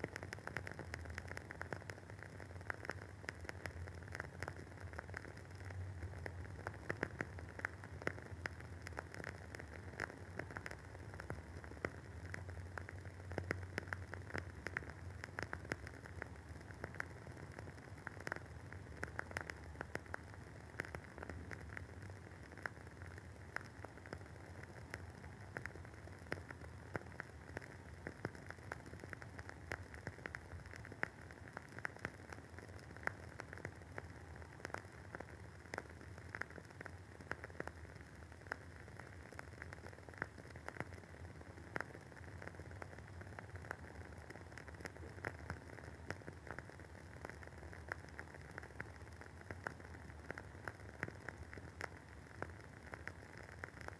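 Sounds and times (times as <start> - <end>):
candle wick crackling: 0.0 - 53.9.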